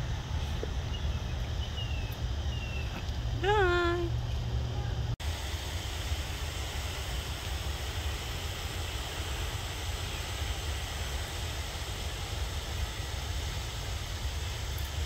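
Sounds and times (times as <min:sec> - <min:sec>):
even hiss: 0:00.0 - 0:15.0.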